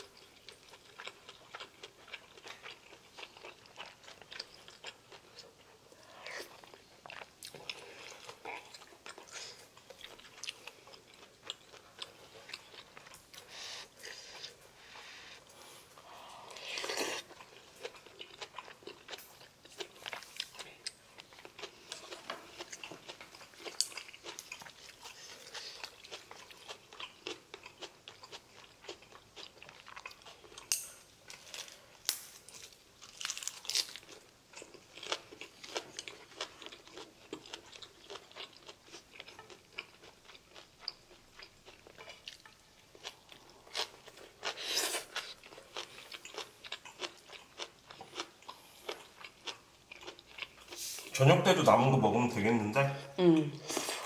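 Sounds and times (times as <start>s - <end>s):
crunching and chewing food: 0.0s - 51.9s.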